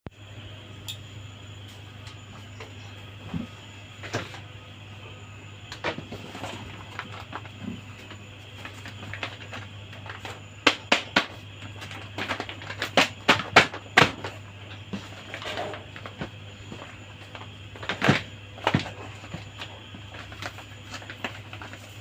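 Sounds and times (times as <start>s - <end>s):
faint steady hum: 0.1s - 22.0s.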